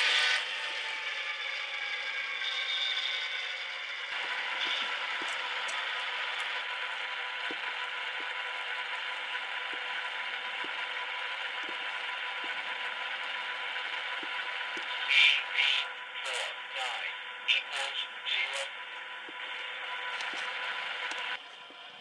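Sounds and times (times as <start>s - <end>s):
model locomotive whirring: 0.0s - 22.0s.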